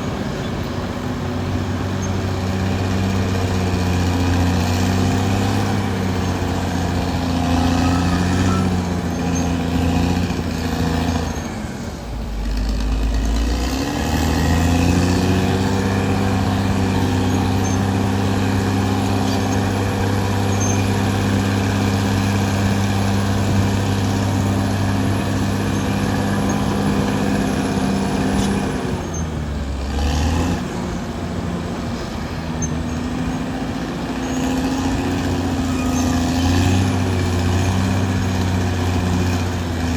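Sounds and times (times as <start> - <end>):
bulldozer diesel engine revving: 0.0 - 39.9.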